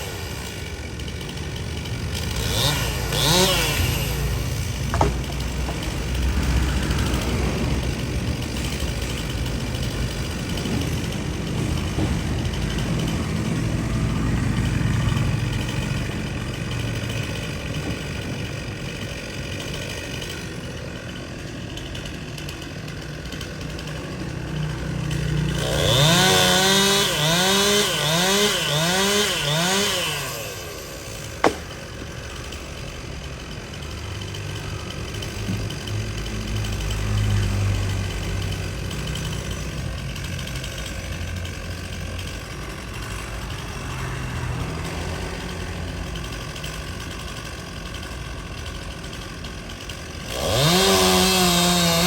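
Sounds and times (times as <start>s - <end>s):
chainsaw engine revving: 0.0s - 52.0s.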